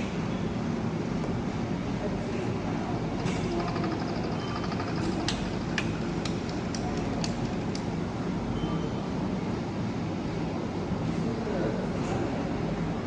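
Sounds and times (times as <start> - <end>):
workshop machinery hum: 0.0 - 13.0.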